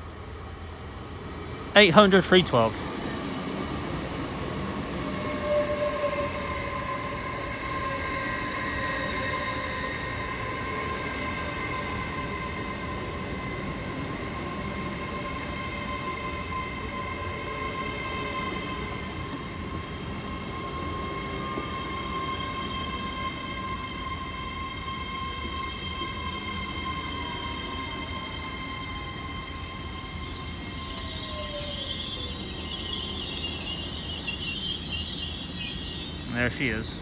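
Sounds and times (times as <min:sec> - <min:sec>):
train equipment whining: 0:00.0 - 0:37.0.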